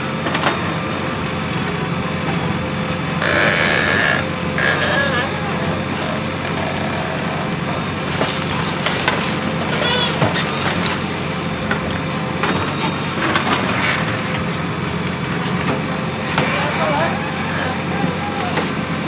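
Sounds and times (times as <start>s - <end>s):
backhoe diesel engine running: 0.0s - 19.0s.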